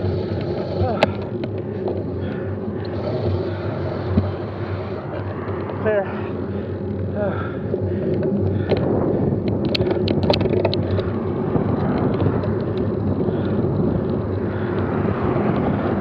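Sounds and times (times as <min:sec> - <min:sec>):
wind and road rumble: 0:00.0 - 0:16.0.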